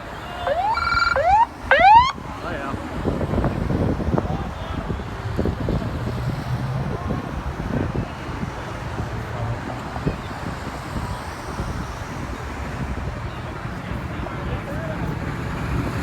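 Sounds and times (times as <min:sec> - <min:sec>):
crowd chatter: 0:00.0 - 0:16.0
wind buffeting microphone: 0:00.0 - 0:16.0.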